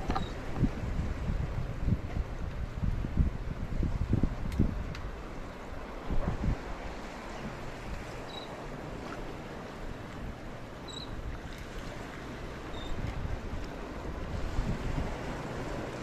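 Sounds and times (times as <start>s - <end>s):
water at shoreline: 0.0s - 16.0s
wind buffeting microphone: 0.0s - 16.0s.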